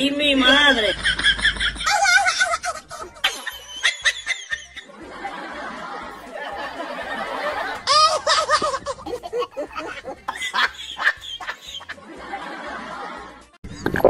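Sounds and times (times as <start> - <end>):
people laughing: 0.4 - 13.6.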